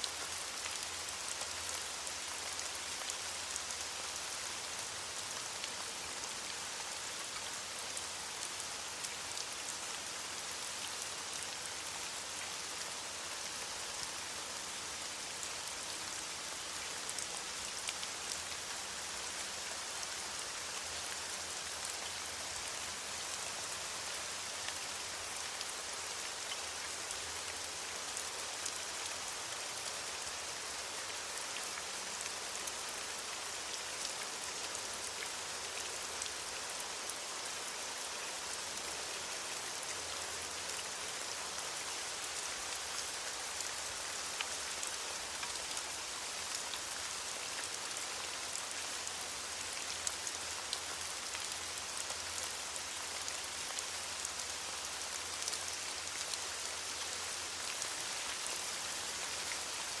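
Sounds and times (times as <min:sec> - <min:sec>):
rain falling on leaves: 0:00.0 - 1:00.0.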